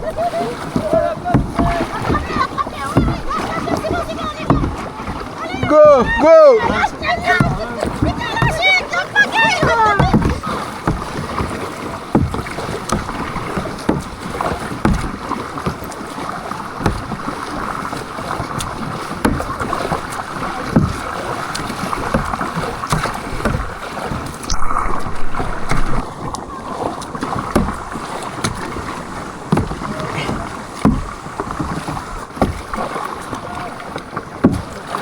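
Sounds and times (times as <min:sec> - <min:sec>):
knocks on canoe: 0:00.0 - 0:35.0
water splashing around canoe: 0:00.0 - 0:35.0.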